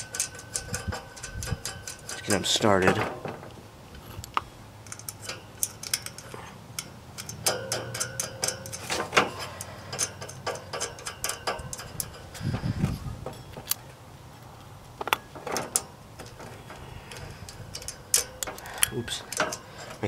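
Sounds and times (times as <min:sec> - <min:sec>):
small metallic clicks: 0:00.0 - 0:03.6, 0:04.2 - 0:14.0, 0:15.0 - 0:20.0.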